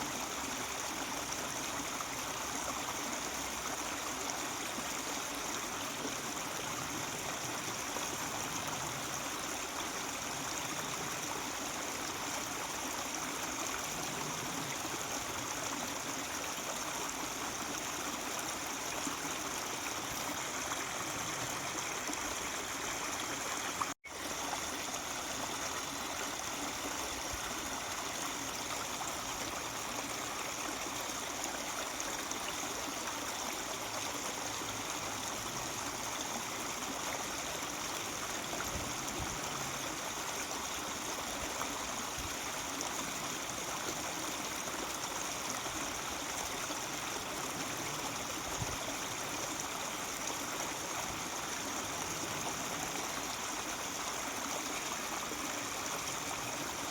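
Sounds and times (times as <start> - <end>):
stream running over rocks: 0.0 - 56.9.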